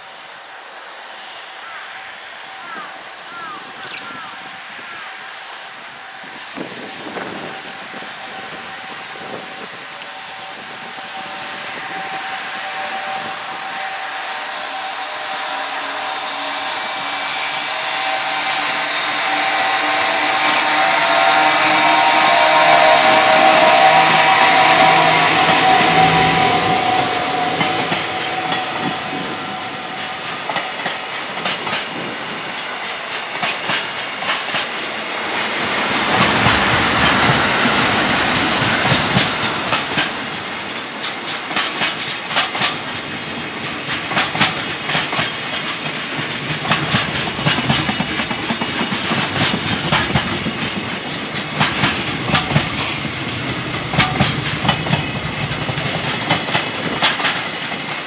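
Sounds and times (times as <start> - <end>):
rush of passing train: 0.0 - 58.0.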